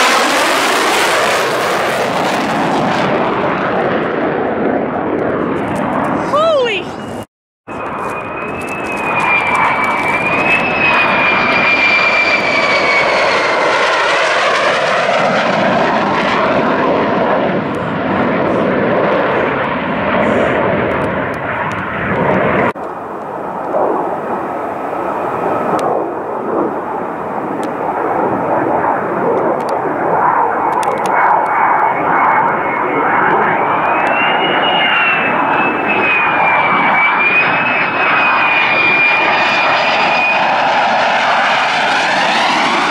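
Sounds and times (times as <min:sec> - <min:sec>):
fighter jet engine whine: 0:00.0 - 0:42.9.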